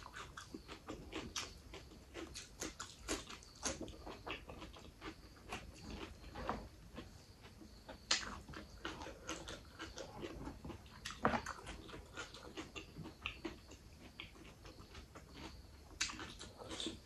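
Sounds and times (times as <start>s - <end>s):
chewing rice: 0.0s - 17.0s.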